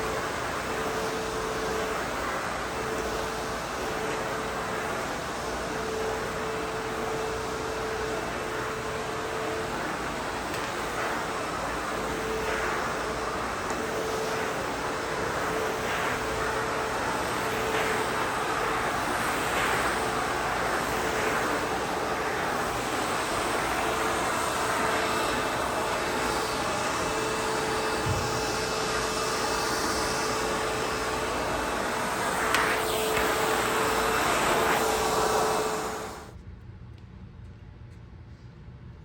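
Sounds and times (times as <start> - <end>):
backpack vacuum motor whining: 0.0 - 36.3
rush of airflow: 0.0 - 36.4.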